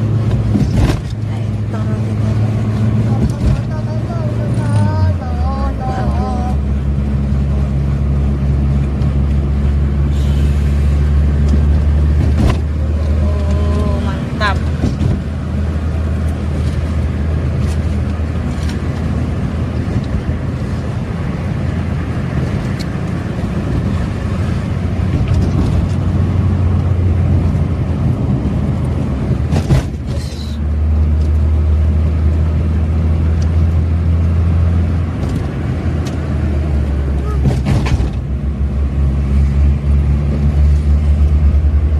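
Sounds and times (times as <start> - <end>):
car engine drone: 0.0 - 41.9
road and tyre noise: 0.0 - 41.9.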